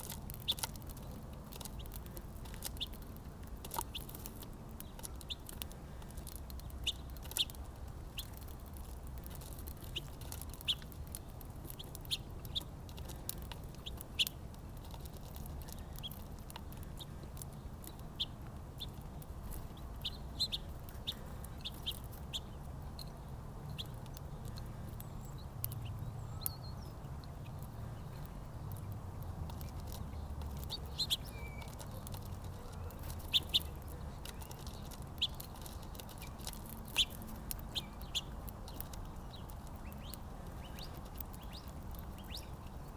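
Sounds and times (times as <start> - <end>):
small birds chipping: 0.0 - 42.9.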